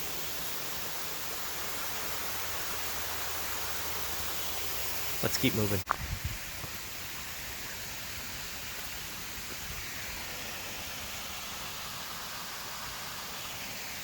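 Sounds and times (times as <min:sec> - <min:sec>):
small waterfall rushing: 0:00.0 - 0:14.0.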